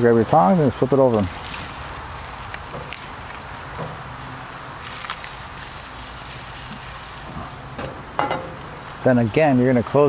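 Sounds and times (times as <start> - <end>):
chicken sizzling on a grill: 0.0 - 10.0.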